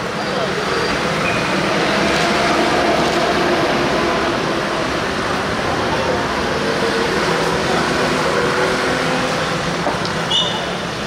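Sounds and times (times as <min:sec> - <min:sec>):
street traffic roar: 0:00.0 - 0:11.0.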